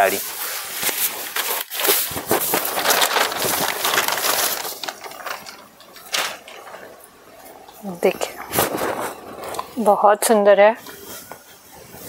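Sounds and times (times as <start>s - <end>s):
paper crackling: 0.0s - 9.8s
stiff fabric crinkling: 0.0s - 10.2s.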